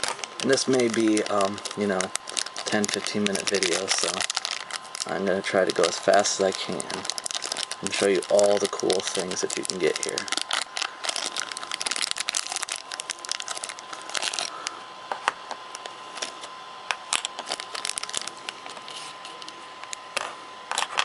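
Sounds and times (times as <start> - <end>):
plastic bag crinkling and tearing: 0.0 - 14.8, 15.8 - 21.0.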